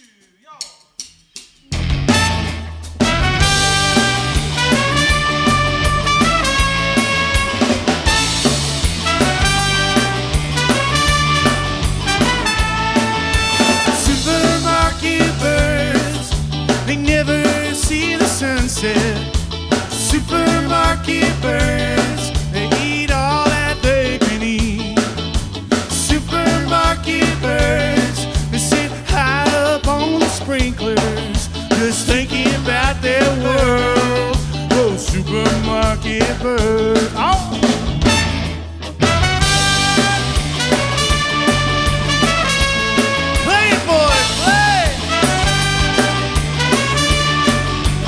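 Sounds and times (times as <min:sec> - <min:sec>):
drum kit beat: 0:00.0 - 0:48.0
band playing instrumental music: 0:01.6 - 0:48.0
bass line: 0:01.6 - 0:48.0.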